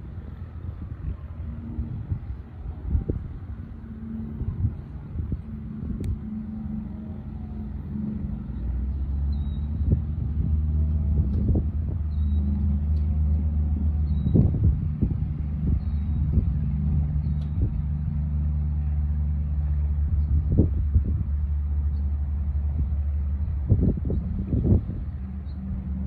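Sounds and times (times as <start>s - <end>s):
aircraft engine droning: 0.0s - 26.0s.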